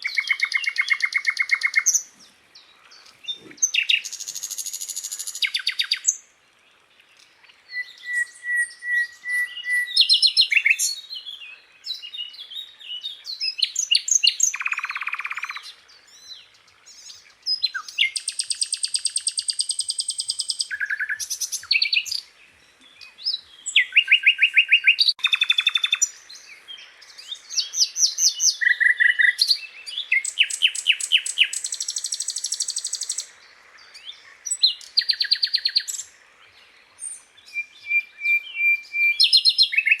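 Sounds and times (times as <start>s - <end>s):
flycatcher singing trills and whistles: 0.0s - 2.1s, 2.9s - 6.3s, 7.4s - 40.0s.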